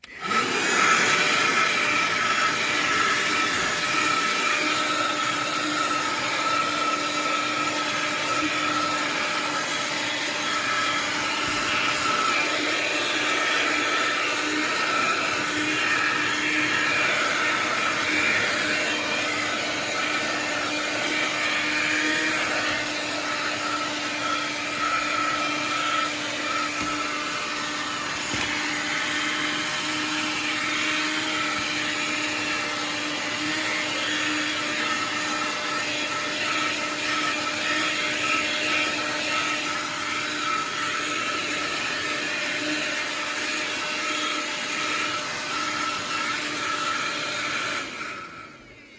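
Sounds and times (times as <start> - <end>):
vacuum cleaner motor humming: 0.0 - 48.9.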